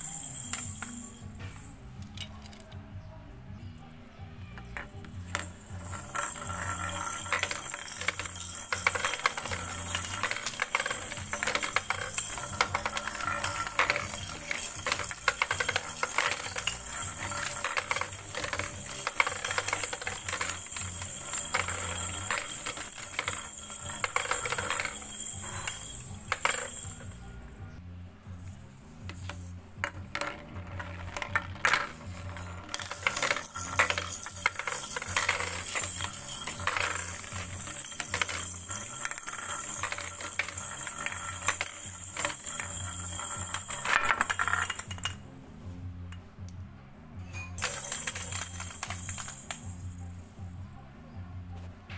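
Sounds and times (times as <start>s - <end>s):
toy balls clattering down tracks: 0.0s - 2.7s, 4.6s - 27.6s, 28.4s - 45.3s, 47.6s - 50.1s
background music: 0.0s - 51.9s.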